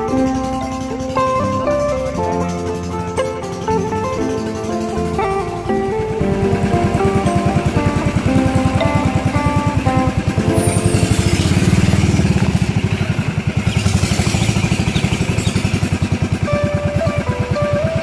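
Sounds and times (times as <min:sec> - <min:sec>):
engine running: 0:00.0 - 0:18.0
faint music: 0:00.0 - 0:18.0.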